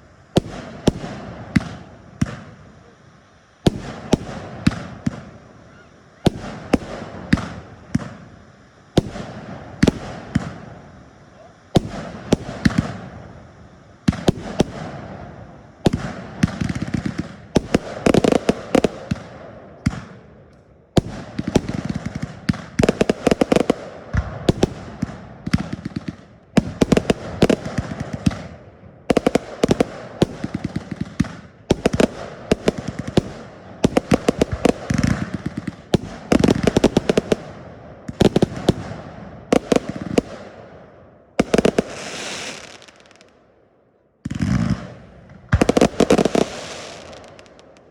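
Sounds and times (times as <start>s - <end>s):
fireworks bangs and cracks: 0.0s - 43.5s, 44.2s - 47.9s.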